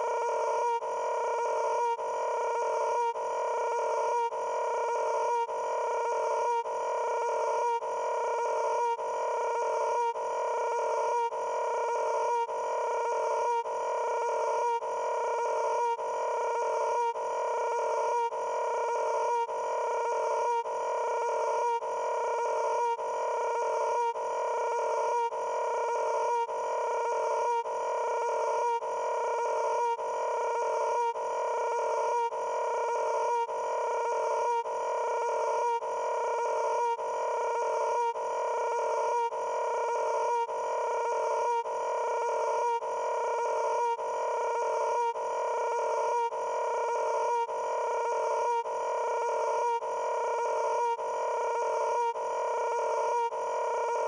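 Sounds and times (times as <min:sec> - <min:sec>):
looping buzzing tone: 0:00.0 - 0:54.0.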